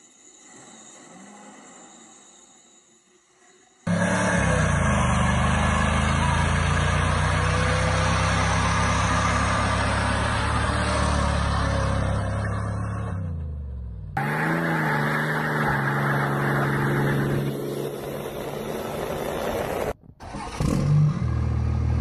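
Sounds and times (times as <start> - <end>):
truck engine at high revs: 3.9 - 22.0
truck engine revving: 3.9 - 22.0.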